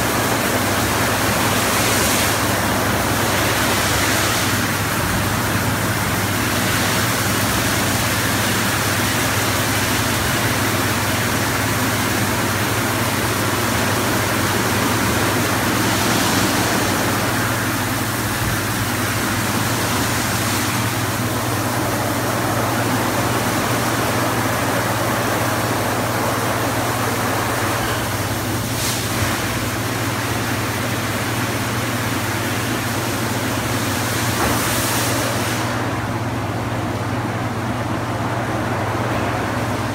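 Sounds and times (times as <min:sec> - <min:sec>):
water spraying: 0:00.0 - 0:36.2.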